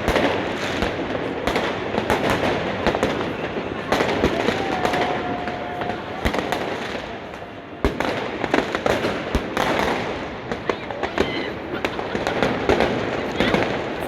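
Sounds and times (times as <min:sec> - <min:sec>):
continuous crackle: 0:00.0 - 0:14.0
firecrackers banging: 0:00.0 - 0:14.0.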